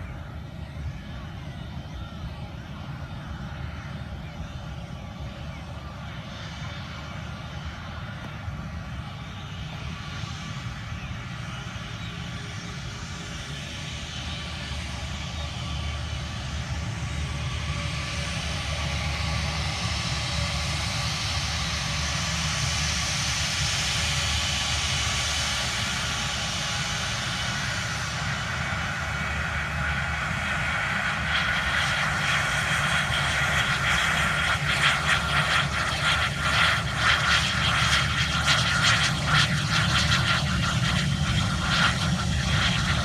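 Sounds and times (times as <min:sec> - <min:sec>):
jet airliner engines rumbling: 0:00.0 - 0:43.0.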